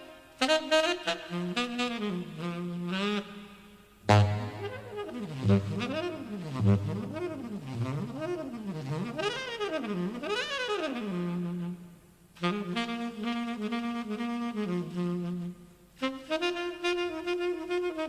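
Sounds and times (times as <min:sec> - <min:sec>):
saxophone jazz solo: 0:00.0 - 0:18.0.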